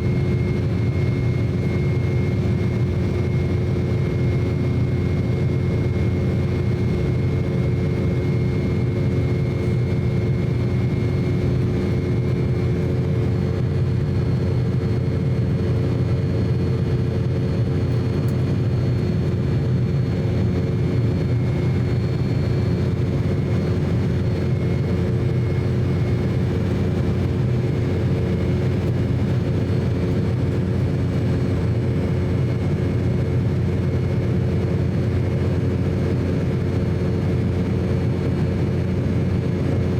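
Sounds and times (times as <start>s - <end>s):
steady whining tones: 0.0s - 39.7s
jet cabin engine rumble: 0.0s - 39.9s.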